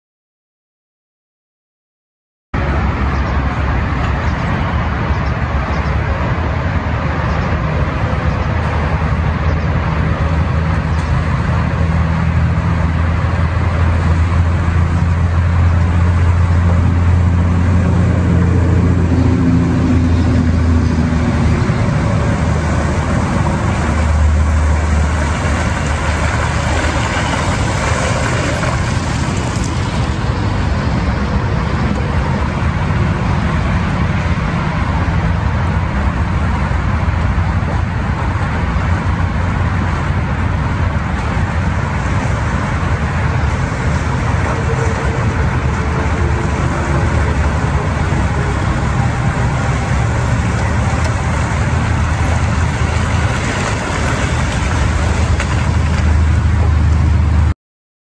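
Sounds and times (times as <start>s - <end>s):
car engine driving through mud: 9.0s - 57.5s.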